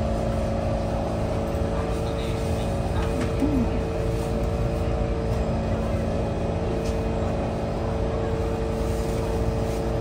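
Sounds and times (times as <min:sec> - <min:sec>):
train equipment humming: 0:00.0 - 0:10.0.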